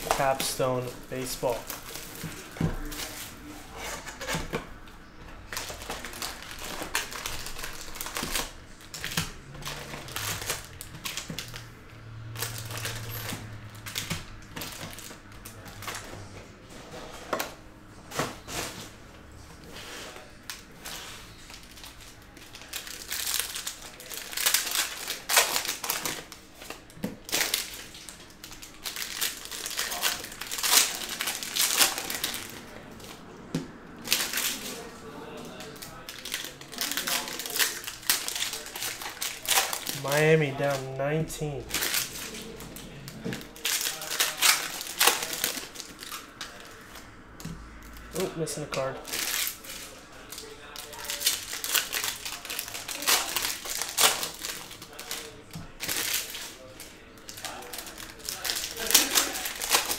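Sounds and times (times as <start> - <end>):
foil wrappers crinkling: 0.0 - 19.0, 19.6 - 33.4, 34.0 - 47.1, 47.8 - 59.9.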